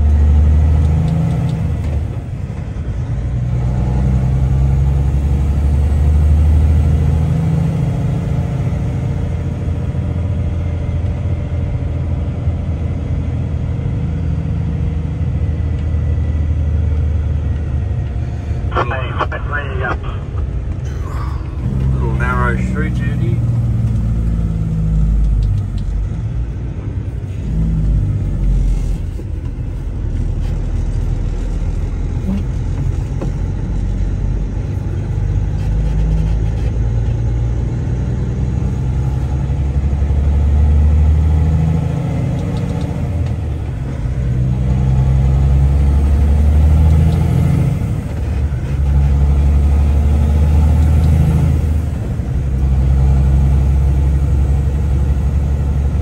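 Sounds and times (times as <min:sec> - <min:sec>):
diesel truck engine droning: 0:00.0 - 0:56.0.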